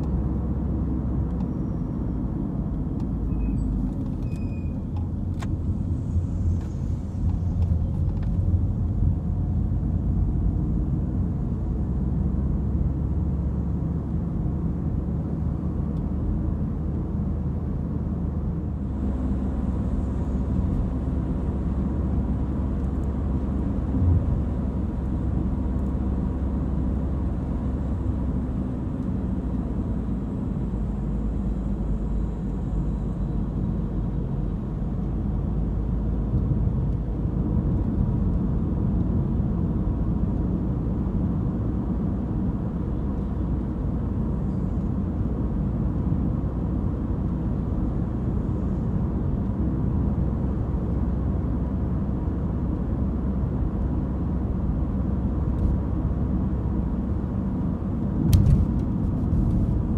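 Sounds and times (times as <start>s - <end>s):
car engine rumble: 0.0s - 59.9s.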